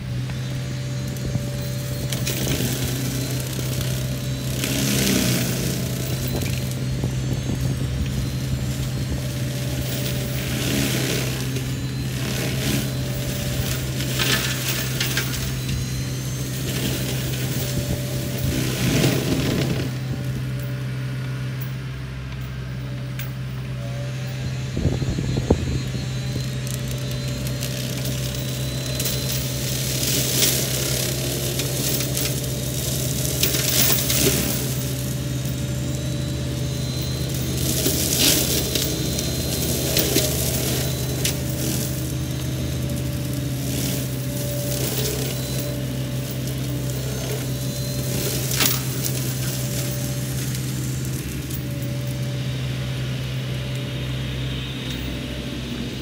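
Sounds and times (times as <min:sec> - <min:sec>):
mini excavator running: 0:00.0 - 0:56.0
flails crunching brush and wood: 0:00.1 - 0:20.7, 0:24.3 - 0:56.0.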